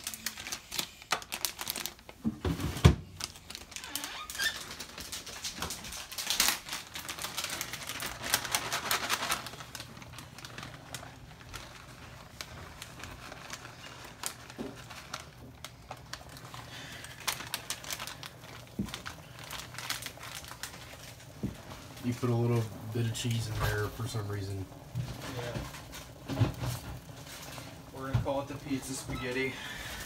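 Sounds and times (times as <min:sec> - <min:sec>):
plastic packaging crinkling: 0:00.0 - 0:30.0.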